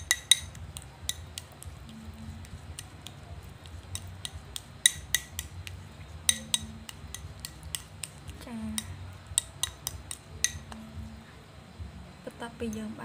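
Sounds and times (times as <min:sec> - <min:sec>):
spoon clinking against bowl: 0:00.0 - 0:10.9
spoon mashing avocado: 0:00.0 - 0:11.2.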